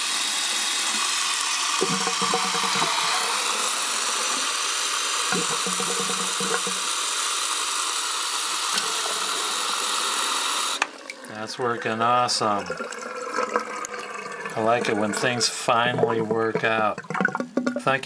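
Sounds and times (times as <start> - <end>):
tap water running into sink: 0.8 - 18.0.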